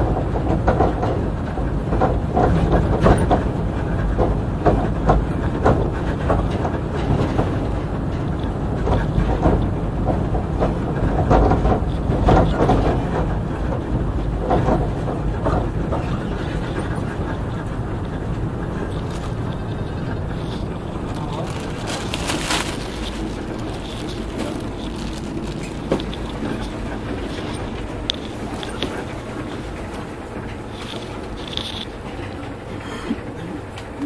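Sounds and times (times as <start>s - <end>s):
train knocks and rattles: 0.0s - 34.0s
train rumbling: 0.0s - 34.0s.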